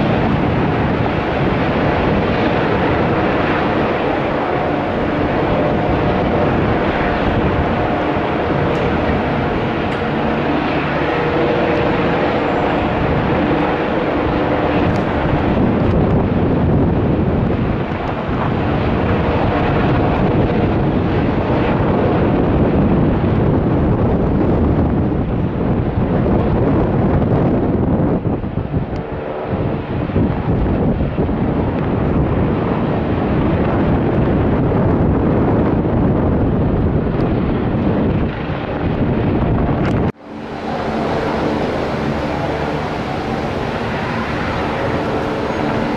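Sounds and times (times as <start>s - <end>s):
helicopter rotor and turbine drone: 0.0s - 45.9s
wind buffeting microphone: 0.0s - 45.9s.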